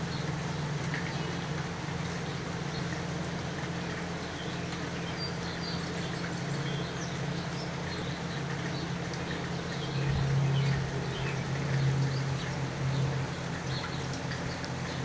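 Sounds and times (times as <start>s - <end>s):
low steady hum: 0.0s - 15.0s
running water: 0.0s - 15.0s.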